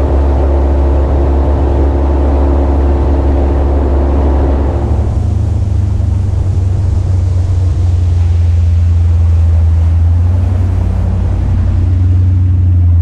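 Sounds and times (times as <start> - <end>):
boat engine drone: 0.0 - 13.0
wake water rushing: 0.0 - 13.0
wind: 0.0 - 13.0.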